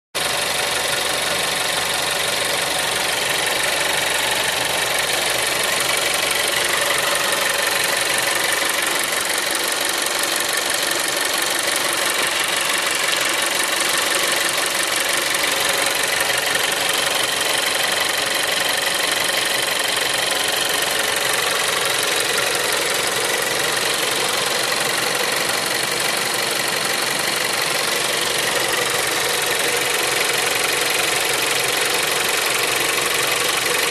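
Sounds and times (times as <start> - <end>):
car engine idling: 0.2 - 33.9.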